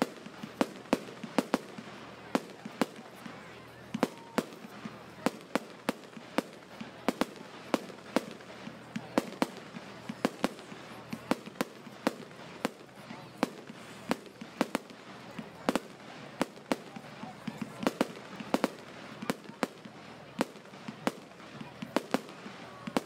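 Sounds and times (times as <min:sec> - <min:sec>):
fireworks bangs: 0:00.0 - 0:23.0.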